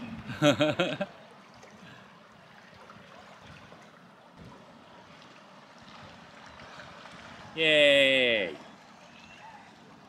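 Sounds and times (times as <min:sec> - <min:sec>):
flowing river water: 0:00.0 - 0:10.0.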